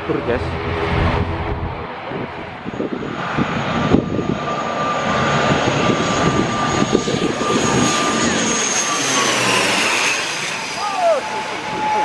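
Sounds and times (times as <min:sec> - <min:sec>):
turboprop airliner engine whine: 0:00.0 - 0:12.0.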